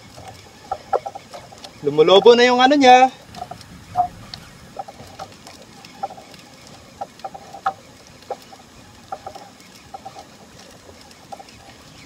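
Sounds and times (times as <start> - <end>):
fishing reel clicking: 0.0 - 12.0.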